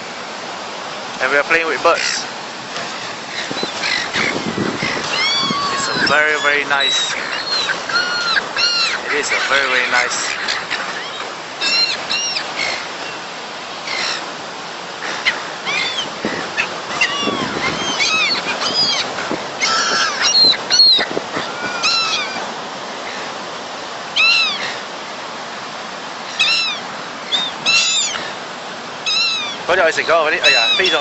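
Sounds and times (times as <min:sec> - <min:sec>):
gulls calling: 0:00.0 - 0:31.0
surf hissing: 0:00.0 - 0:31.0
wind: 0:00.0 - 0:31.0.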